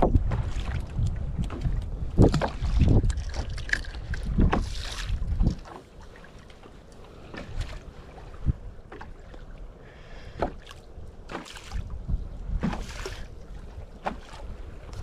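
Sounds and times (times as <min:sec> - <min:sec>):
wind buffeting microphone: 0:00.0 - 0:06.2, 0:07.0 - 0:15.0
water slapping against boat: 0:00.0 - 0:15.0.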